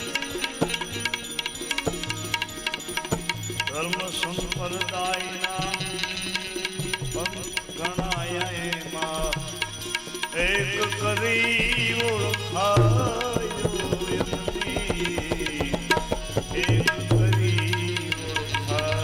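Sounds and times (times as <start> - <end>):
hand drum beat: 0.0 - 19.0.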